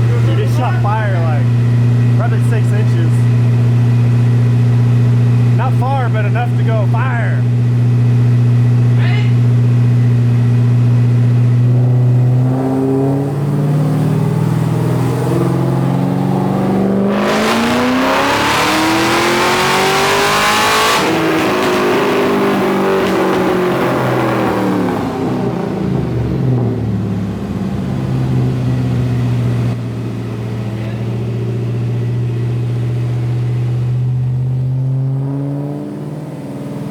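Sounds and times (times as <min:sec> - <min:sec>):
car engine full-throttle pull: 0:00.0 - 0:36.9.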